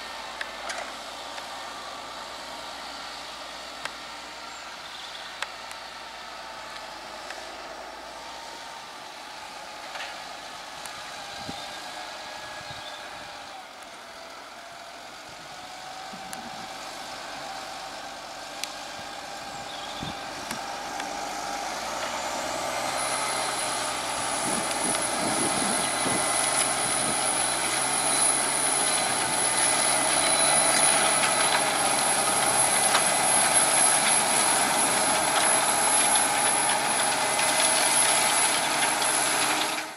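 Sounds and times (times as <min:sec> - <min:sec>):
tractor engine working under load: 0:00.0 - 0:39.9.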